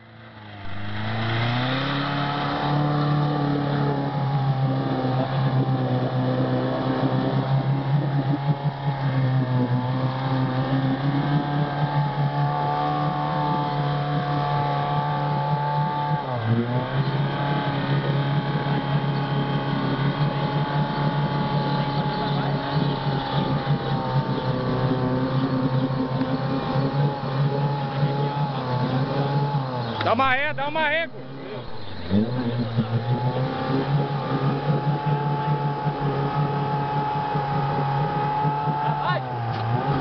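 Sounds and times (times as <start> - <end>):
engine revving under load: 0.0 - 40.0.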